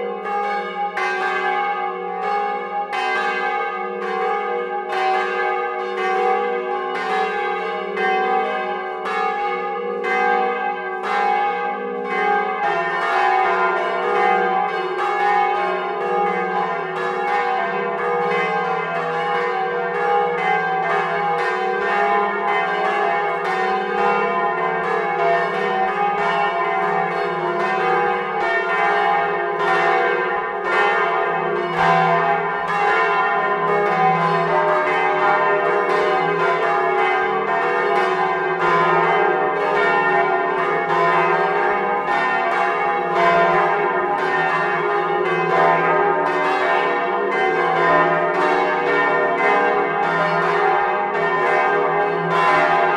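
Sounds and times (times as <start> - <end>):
swinging church bells ringing: 0.0 - 52.9.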